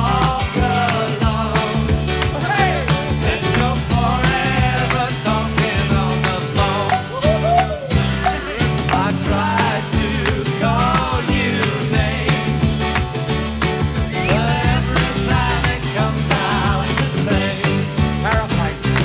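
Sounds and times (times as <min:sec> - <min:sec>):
bass line: 0:00.0 - 0:19.0
drums keeping steady beat: 0:00.0 - 0:19.0
sliding melody line: 0:00.0 - 0:19.0.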